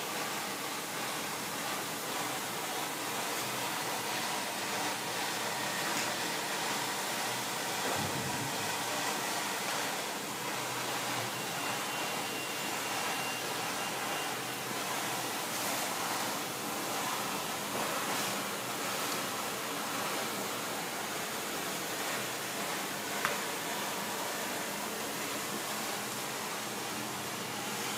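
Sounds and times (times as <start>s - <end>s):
wallpaper trimming machine rushing: 0.0s - 27.9s.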